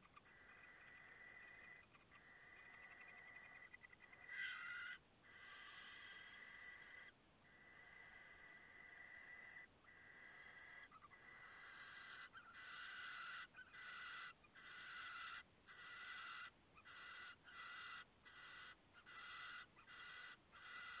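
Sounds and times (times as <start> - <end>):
owl chicks hissing begging calls: 0.0 - 21.0.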